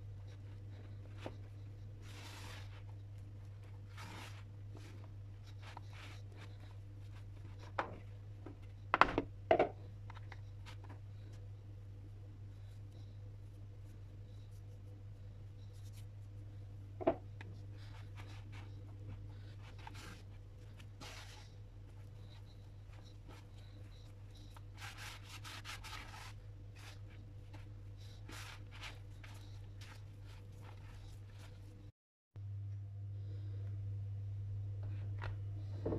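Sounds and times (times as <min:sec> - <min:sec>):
dough rubbing and scraping: 0:00.0 - 0:31.9
steady low hum: 0:00.0 - 0:35.9.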